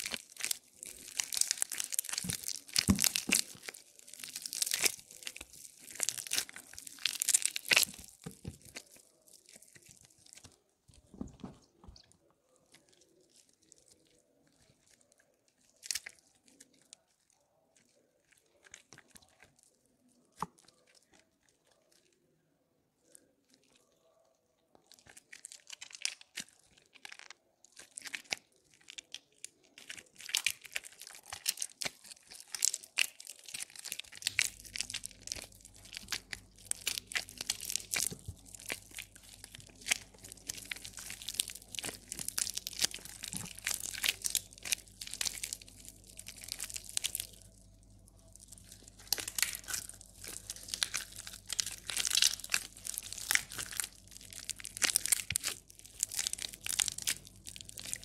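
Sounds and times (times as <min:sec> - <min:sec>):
soft soap crackling: 0:00.0 - 0:22.4, 0:23.0 - 0:58.0.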